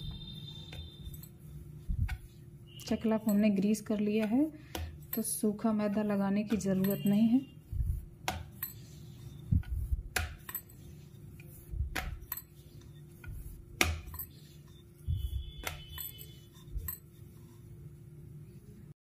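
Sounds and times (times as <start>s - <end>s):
rolling pin rolling dough: 0.0s - 18.9s.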